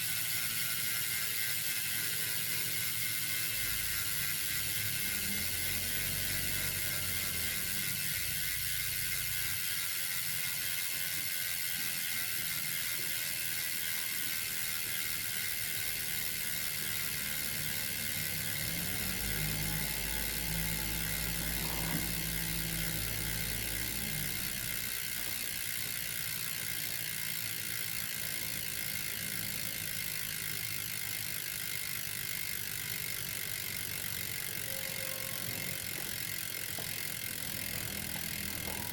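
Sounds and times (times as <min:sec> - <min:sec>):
bicycle freehub ratchet clicking: 0:00.0 - 0:38.9.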